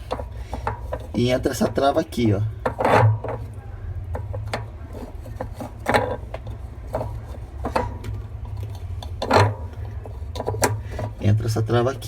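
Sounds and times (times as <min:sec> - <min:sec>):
plastic and metal parts clicking: 0:00.0 - 0:11.2.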